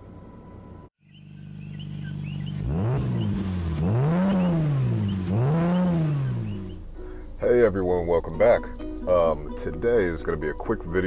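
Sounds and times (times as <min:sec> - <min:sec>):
car engine idling and revving: 0:00.0 - 0:09.0.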